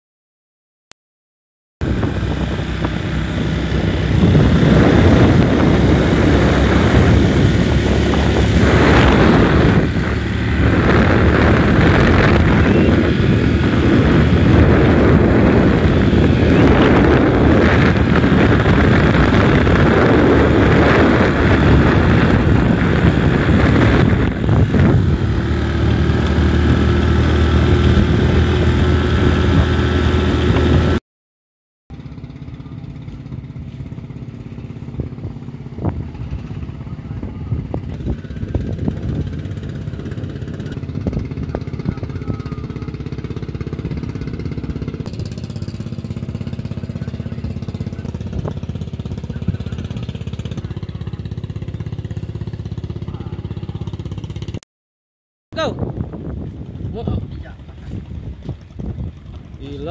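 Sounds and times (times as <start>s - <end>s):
motorcycle engine running: 1.8s - 31.0s, 31.9s - 54.6s, 55.6s - 59.9s
wind buffeting microphone: 1.8s - 31.0s, 32.2s - 54.6s, 55.6s - 59.9s.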